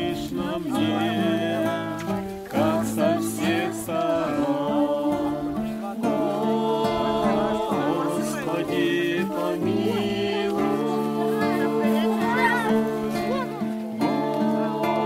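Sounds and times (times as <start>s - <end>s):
acoustic guitar: 0.0s - 15.0s
group of people singing: 0.0s - 15.0s.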